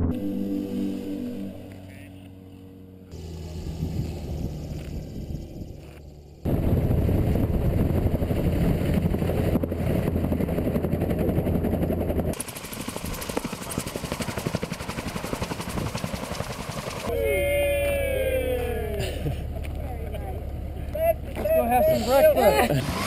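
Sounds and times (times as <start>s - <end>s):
gyroplane engine and propeller: 0.0s - 23.0s.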